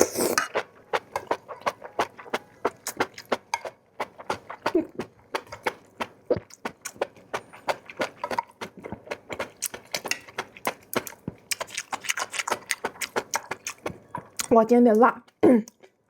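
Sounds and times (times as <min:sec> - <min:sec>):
food crunching while chewing: 0:00.0 - 0:14.5.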